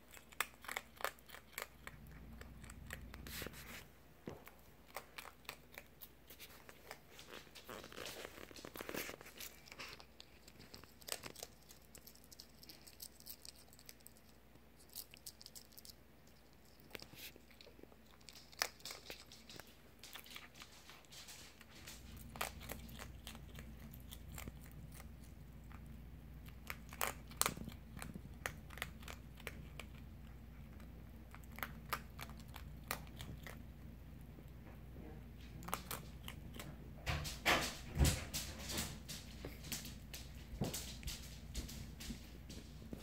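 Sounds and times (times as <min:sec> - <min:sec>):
fox crunching dry food: 0:00.0 - 0:34.4, 0:35.4 - 0:43.0.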